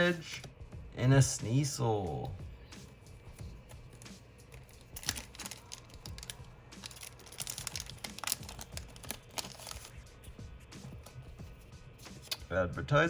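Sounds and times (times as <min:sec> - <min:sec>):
trading cards being handled: 0:01.5 - 0:12.5.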